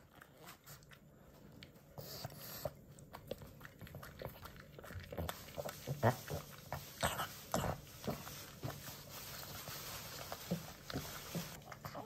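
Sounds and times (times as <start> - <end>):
dog chewing and smacking: 0.0 - 12.0.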